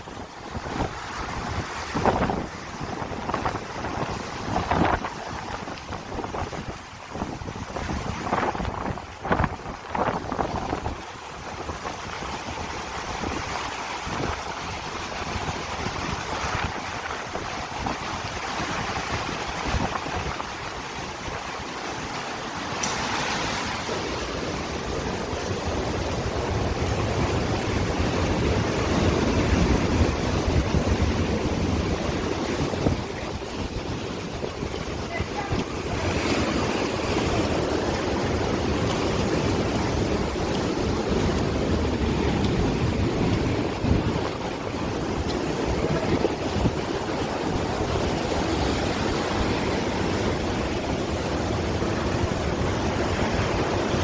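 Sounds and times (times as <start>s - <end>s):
rough sea surf: 0.0s - 54.0s
wind buffeting microphone: 0.0s - 54.0s.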